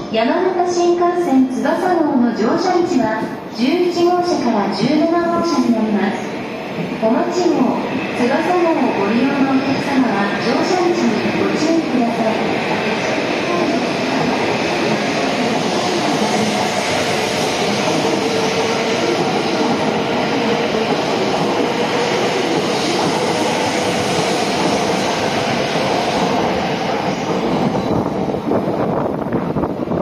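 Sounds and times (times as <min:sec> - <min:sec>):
constant train hum: 0:00.0 - 0:30.0
train wheels rumbling on rail: 0:03.2 - 0:30.0.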